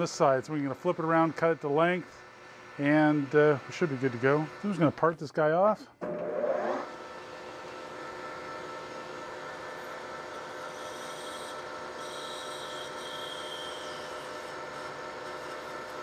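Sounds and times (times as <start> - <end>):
lathe motor hum and whine: 0.0 - 5.0, 6.0 - 16.0.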